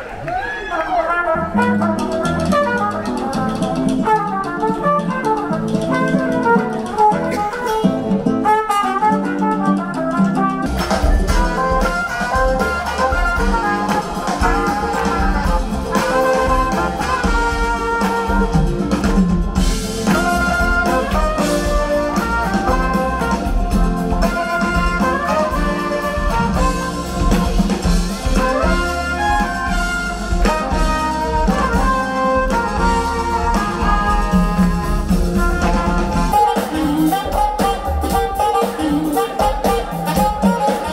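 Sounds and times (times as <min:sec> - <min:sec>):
bass: 0:00.0 - 0:40.9
keyboards: 0:00.0 - 0:40.9
drum kit: 0:00.3 - 0:40.9
guitar: 0:00.9 - 0:40.9.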